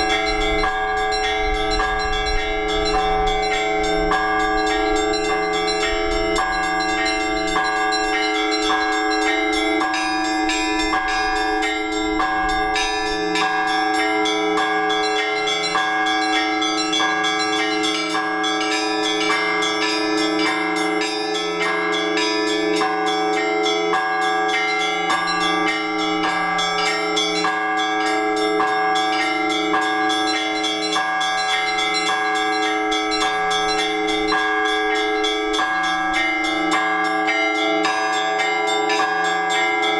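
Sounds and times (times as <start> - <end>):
church bells ringing: 0.0 - 39.9
deep bells ringing: 0.0 - 39.9.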